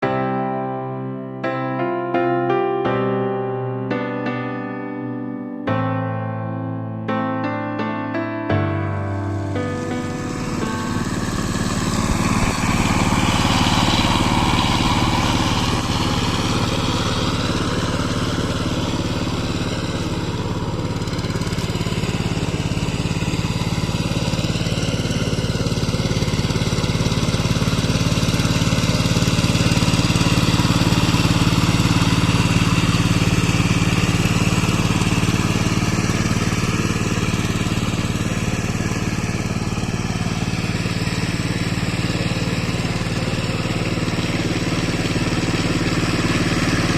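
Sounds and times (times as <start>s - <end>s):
power tiller engine running: 7.4s - 46.9s.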